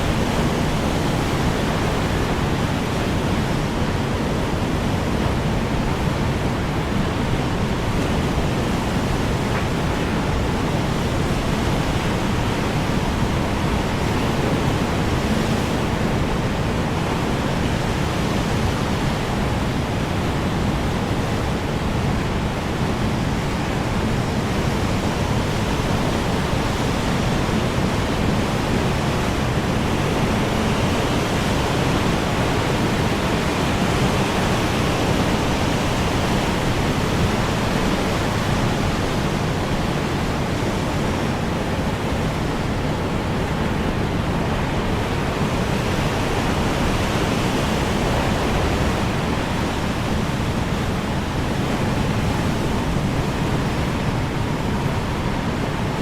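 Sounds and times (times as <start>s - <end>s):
strong wind blowing: 0.0s - 56.0s.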